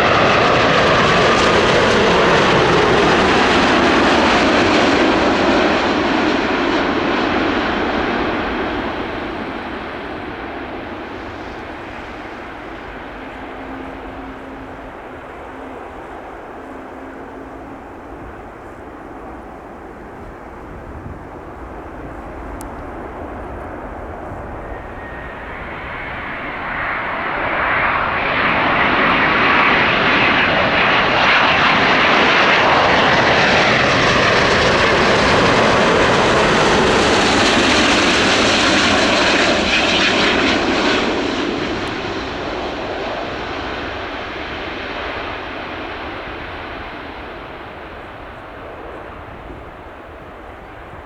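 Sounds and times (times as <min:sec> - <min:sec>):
falling jet engine whine: 0:00.0 - 0:51.0
jet airliner passing: 0:00.0 - 0:51.0.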